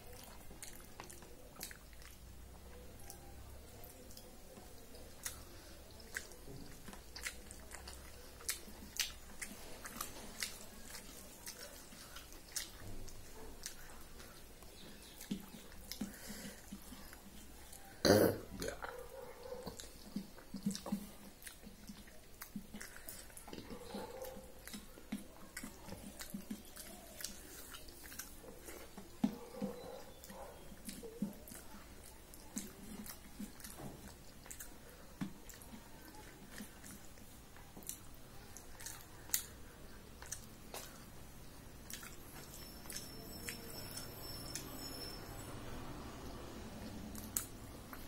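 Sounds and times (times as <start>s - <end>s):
person chewing: 0.0s - 45.0s, 46.8s - 48.0s.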